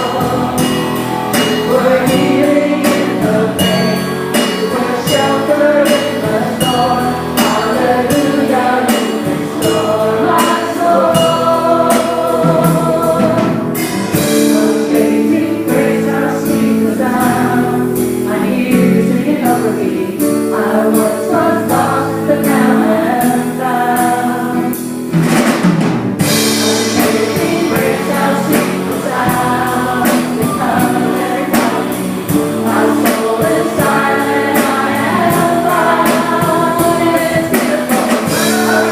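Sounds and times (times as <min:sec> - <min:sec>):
drums beating: 0:00.0 - 0:19.6, 0:20.2 - 0:38.9
gospel choir singing: 0:00.0 - 0:25.4, 0:26.2 - 0:38.9
band playing: 0:00.0 - 0:38.9.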